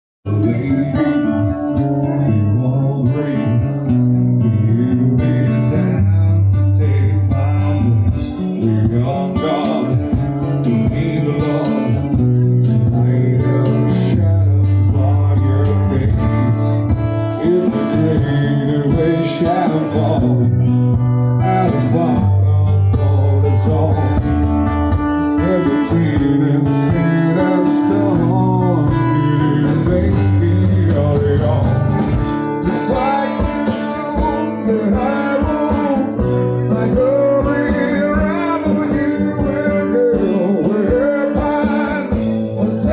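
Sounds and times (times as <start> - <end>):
acoustic guitar with bass line: 0.2 - 42.9
person singing: 0.3 - 42.9.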